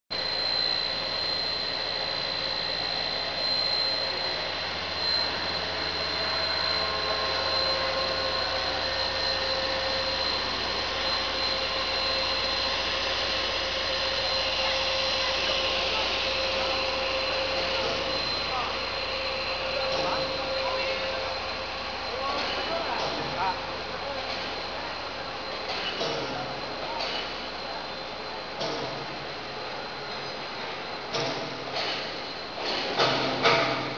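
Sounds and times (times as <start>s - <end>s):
constant high whine: 0.1s - 33.9s
machine drone: 0.1s - 33.9s.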